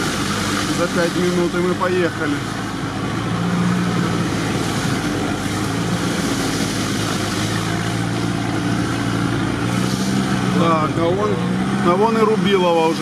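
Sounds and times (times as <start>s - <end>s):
tyre and road noise: 0.0s - 13.0s
vehicle engine running: 0.0s - 13.0s.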